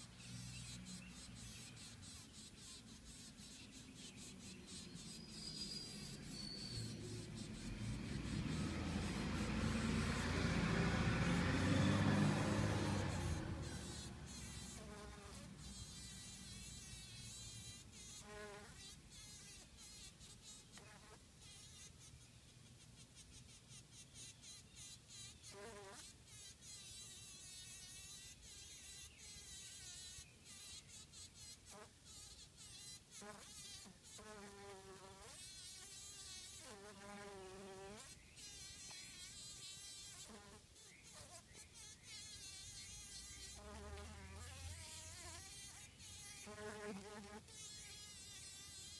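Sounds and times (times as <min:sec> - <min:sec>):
bee buzzing: 0:00.0 - 0:22.2, 0:22.9 - 0:48.9.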